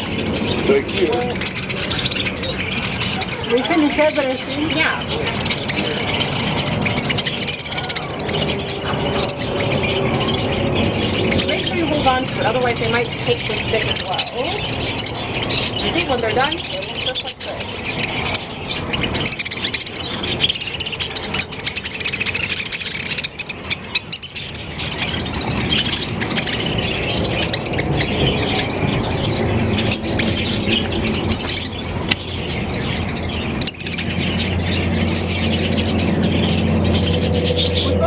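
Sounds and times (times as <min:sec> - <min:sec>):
parakeets chattering: 0:00.0 - 0:38.0.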